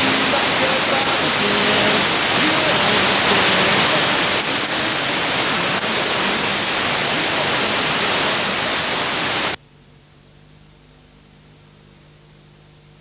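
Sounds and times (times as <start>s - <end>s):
faint low hum: 0.0s - 13.0s
loud static hiss: 0.0s - 13.0s.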